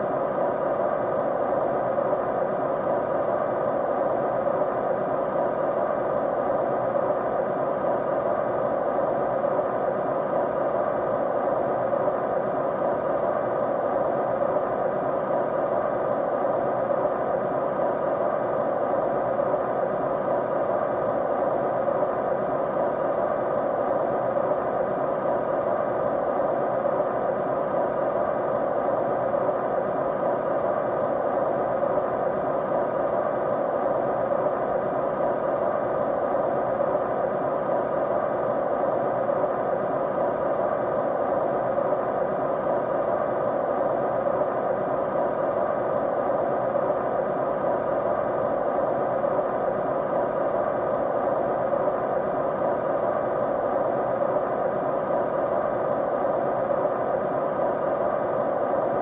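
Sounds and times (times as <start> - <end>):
faint steady tones: 0.0 - 59.0
steady white noise: 0.0 - 59.0.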